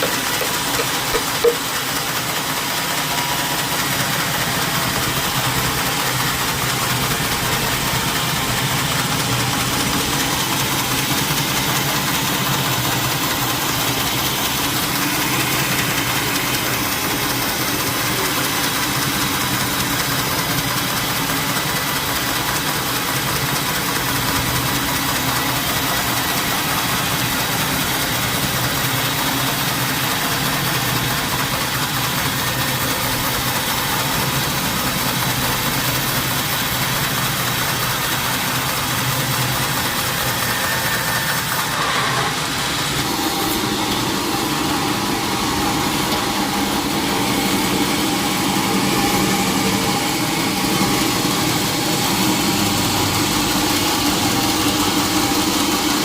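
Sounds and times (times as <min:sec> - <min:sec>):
machinery engine running: 0:00.0 - 0:56.0.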